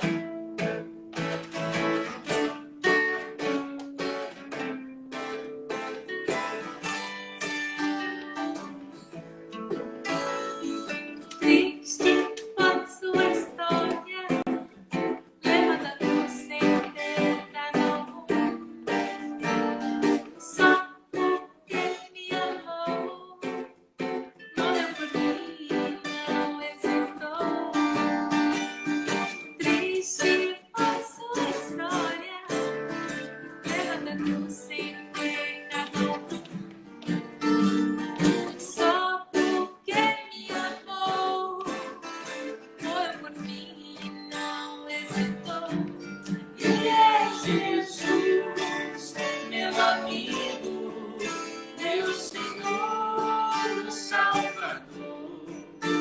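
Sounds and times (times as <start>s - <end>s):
acoustic band playing gentle song: 0.0s - 56.0s.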